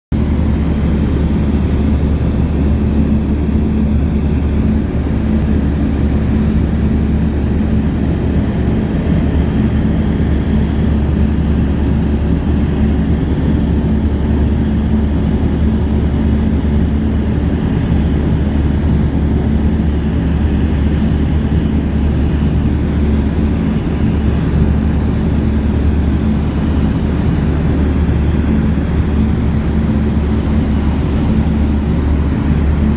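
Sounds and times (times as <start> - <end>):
light aircraft engine drone: 0.1 - 32.9.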